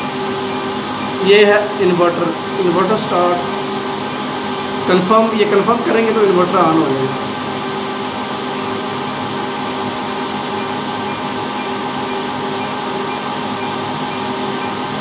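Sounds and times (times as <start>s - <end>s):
high-pitched whine: 0.0s - 15.0s
short alarm beeps: 0.0s - 15.0s
steady fan noise: 0.0s - 15.0s.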